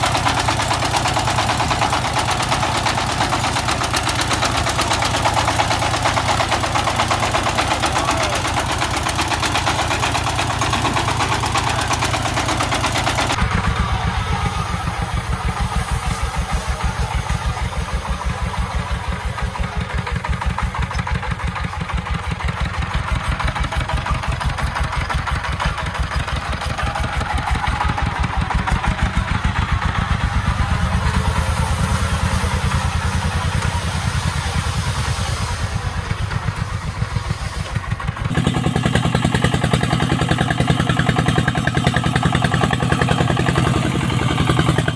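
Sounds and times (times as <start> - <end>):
walking tractor diesel engine chugging: 0.0 - 44.9.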